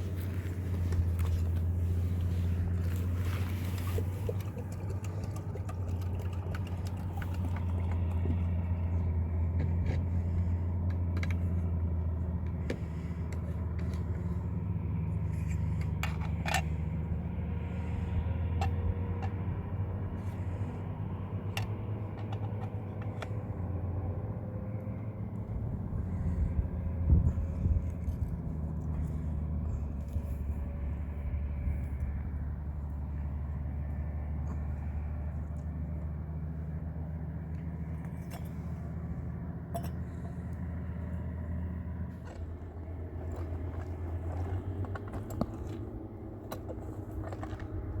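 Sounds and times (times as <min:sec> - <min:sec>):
low engine hum: 0:00.0 - 0:48.0.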